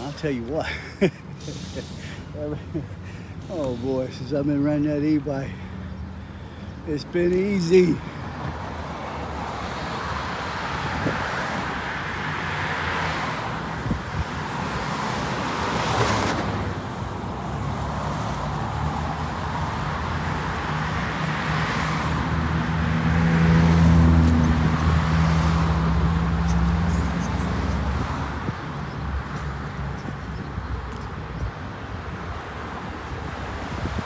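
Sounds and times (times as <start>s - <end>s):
wind and road noise: 0.0s - 34.0s.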